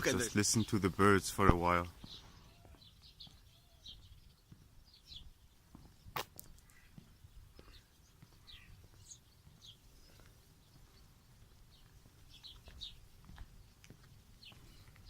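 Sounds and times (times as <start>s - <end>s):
distant songbirds chirping: 0.0s - 15.0s.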